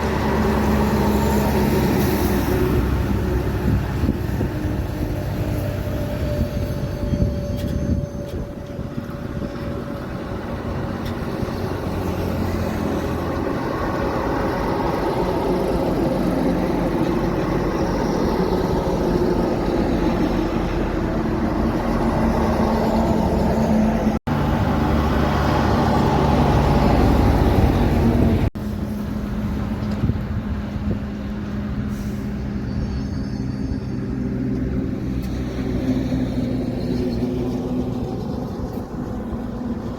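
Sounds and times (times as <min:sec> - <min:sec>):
engine and tyre noise: 0:00.0 - 0:39.9
trucks driving past: 0:00.0 - 0:39.9.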